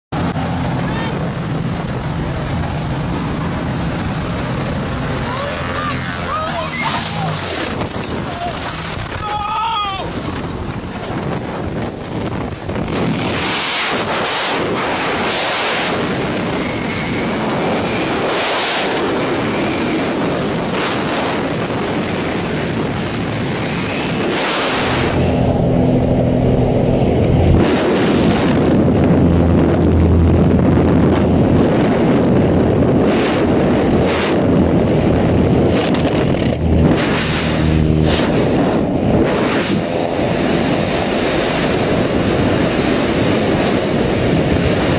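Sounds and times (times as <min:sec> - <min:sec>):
freefall wind buffeting microphone: 0:00.1 - 0:44.9.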